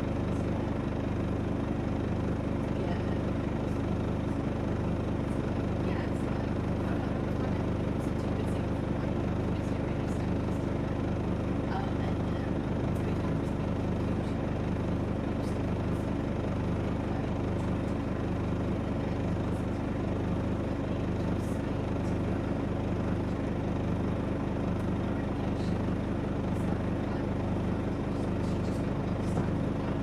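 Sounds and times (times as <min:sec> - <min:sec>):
bus engine humming: 0:00.0 - 0:30.0.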